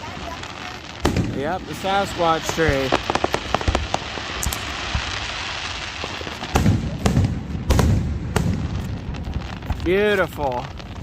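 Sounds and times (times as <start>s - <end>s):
fireworks booming bangs: 0.0s - 11.0s
fireworks crackling hiss: 0.0s - 11.0s.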